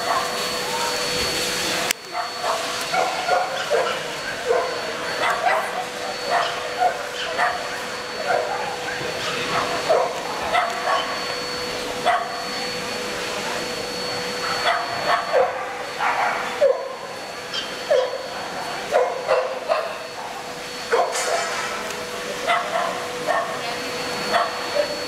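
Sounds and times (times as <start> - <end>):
dogs barking: 0.0 - 0.5, 2.0 - 11.4, 12.0 - 12.5, 14.4 - 25.0.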